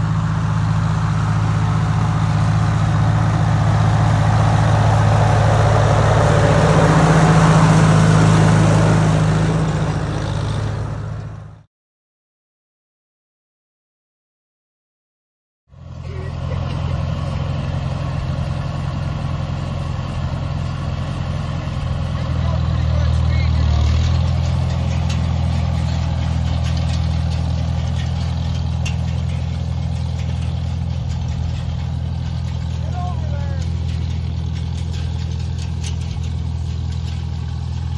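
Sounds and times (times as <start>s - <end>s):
tractor engine running: 0.0s - 11.7s, 15.7s - 37.9s.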